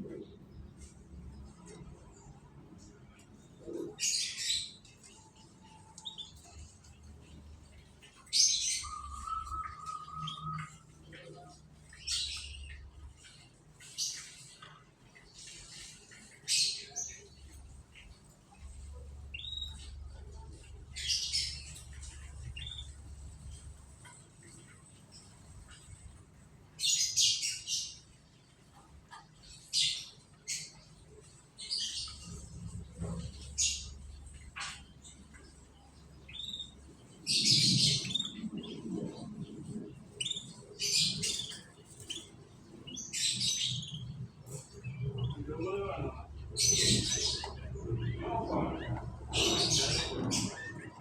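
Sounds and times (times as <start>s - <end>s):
canaries chirping: 0.0s - 51.0s.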